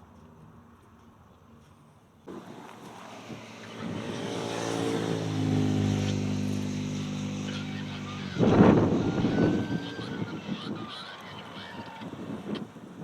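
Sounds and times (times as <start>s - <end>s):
motor vehicle passing by: 2.3s - 13.0s.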